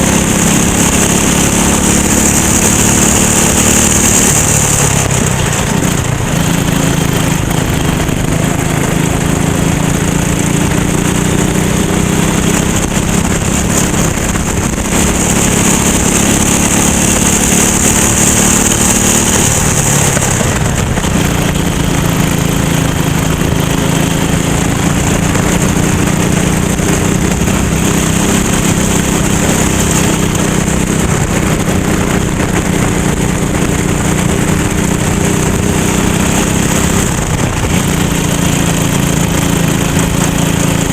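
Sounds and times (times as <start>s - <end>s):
kart engine running hard: 0.0s - 40.9s.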